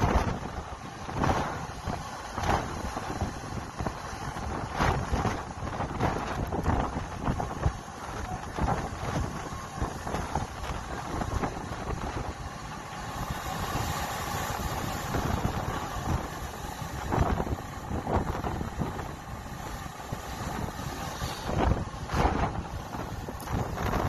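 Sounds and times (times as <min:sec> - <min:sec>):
sea waves breaking on rocks: 0:00.0 - 0:24.0
wind buffeting microphone: 0:00.0 - 0:24.0.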